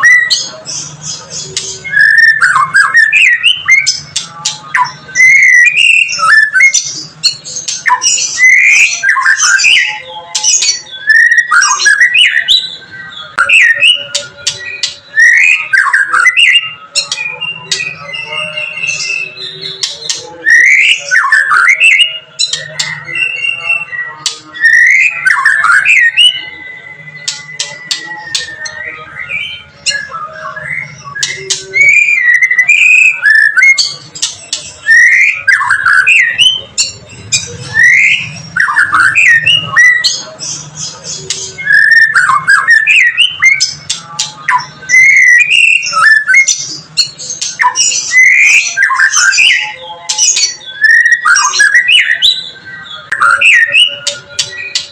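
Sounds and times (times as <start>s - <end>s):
bird singing whistled phrases: 0.0s - 54.9s.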